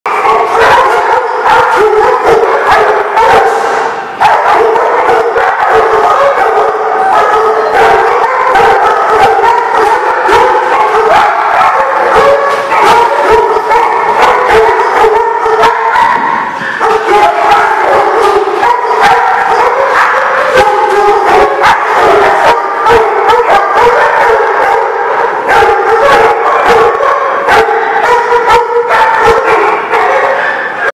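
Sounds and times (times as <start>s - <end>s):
dogs barking and yipping: 0.1s - 30.9s.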